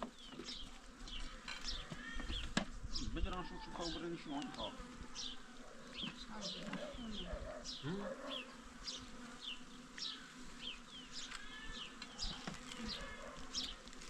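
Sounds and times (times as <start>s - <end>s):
insect buzzing: 0.0s - 14.0s.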